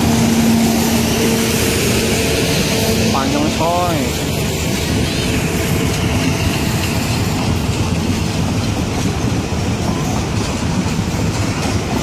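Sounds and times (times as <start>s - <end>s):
train wheels rolling over rails: 0.0s - 12.0s.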